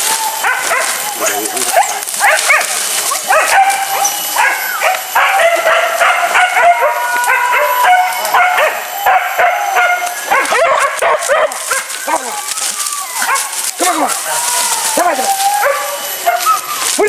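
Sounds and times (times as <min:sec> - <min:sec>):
dogs barking and yelping: 0:00.0 - 0:17.0.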